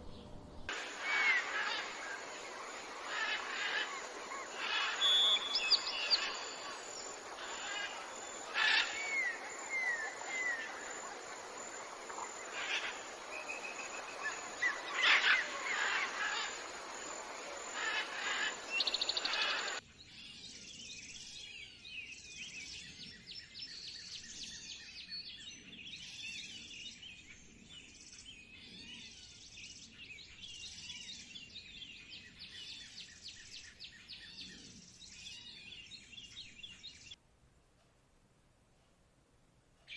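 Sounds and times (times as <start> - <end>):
wild birds singing: 0.0 - 37.2
outdoor background noise: 0.0 - 39.9.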